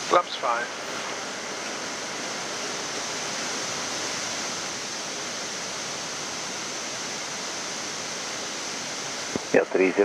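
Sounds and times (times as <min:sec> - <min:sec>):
rushing hiss of airflow: 0:00.0 - 0:10.0.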